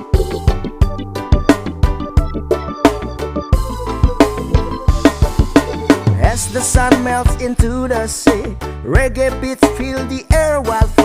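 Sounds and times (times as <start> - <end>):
instrumental reggae music: 0.0 - 11.0.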